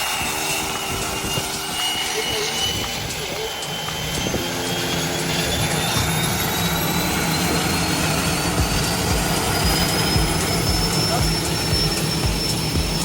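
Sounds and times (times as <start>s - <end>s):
turboprop engine spooling up: 0.0s - 13.0s.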